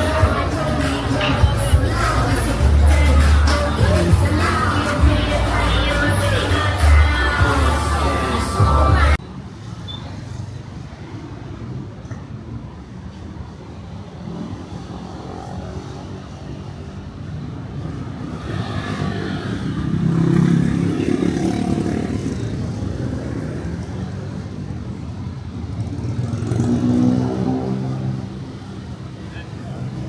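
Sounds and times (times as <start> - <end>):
motor vehicles passing: 0.0 - 30.0.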